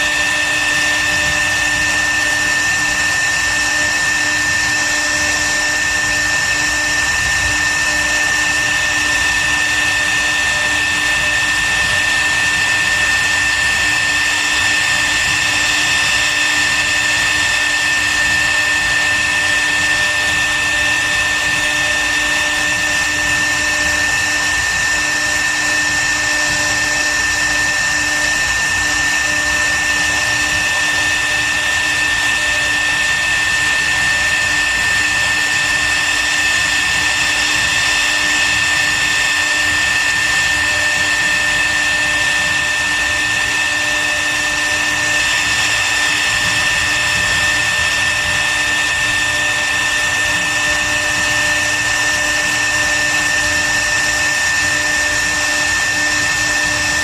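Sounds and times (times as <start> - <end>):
router spindle high whine: 0.0 - 57.0.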